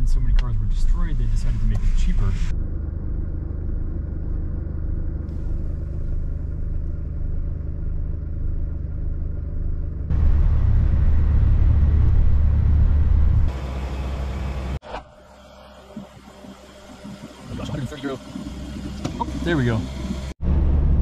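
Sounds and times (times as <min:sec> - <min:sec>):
vehicle engine hum: 0:00.0 - 0:21.0
vehicle rumble on road: 0:00.0 - 0:21.0.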